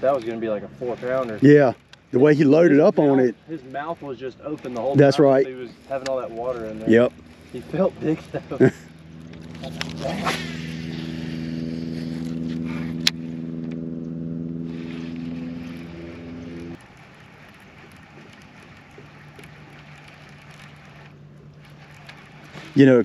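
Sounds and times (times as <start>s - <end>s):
electric motor humming: 0.0s - 23.0s.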